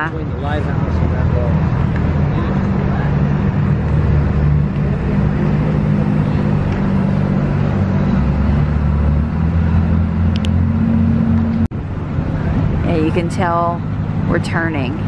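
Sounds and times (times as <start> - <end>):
ship engine drone: 0.0 - 15.0.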